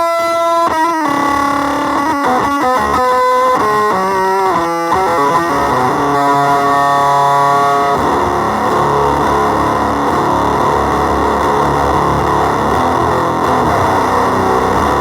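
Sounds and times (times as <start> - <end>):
electric guitar through effects pedal: 0.0 - 15.0.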